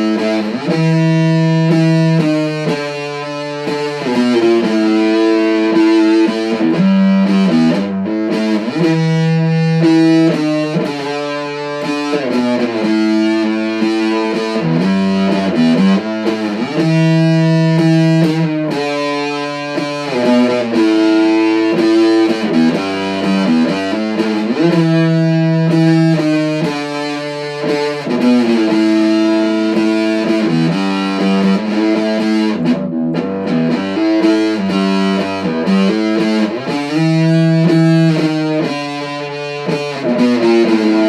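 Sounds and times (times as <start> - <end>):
song with distorted held notes: 0.0 - 41.0.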